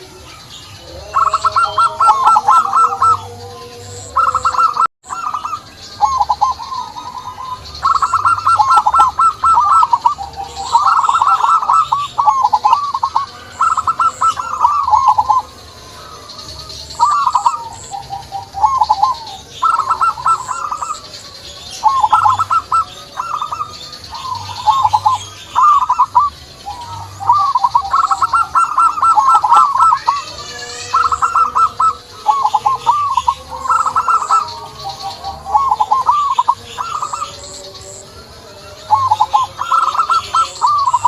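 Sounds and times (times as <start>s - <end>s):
dove cooing: 0.0s - 41.0s.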